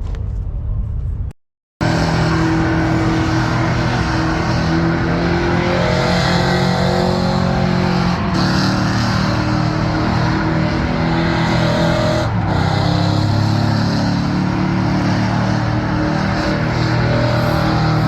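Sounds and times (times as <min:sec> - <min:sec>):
engine at high revs: 0:01.8 - 0:18.0.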